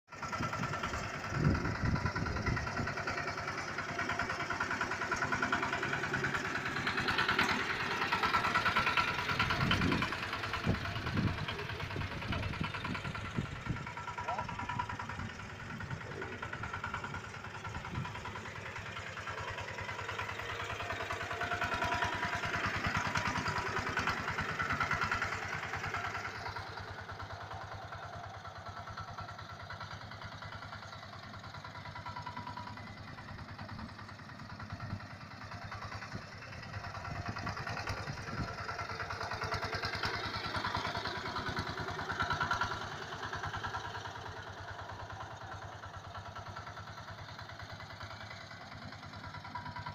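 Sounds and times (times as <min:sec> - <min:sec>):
small engine running: 0:00.1 - 0:49.9.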